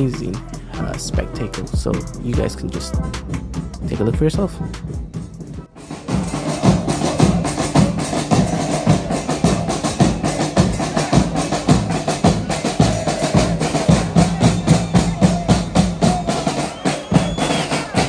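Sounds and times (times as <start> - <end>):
drum line beating bass drums: 0.0 - 18.0.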